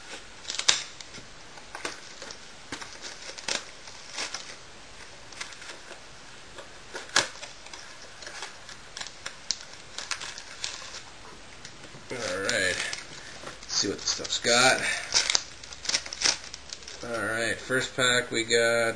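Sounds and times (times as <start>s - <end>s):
cardboard box and packs crinkling: 0.0s - 17.8s.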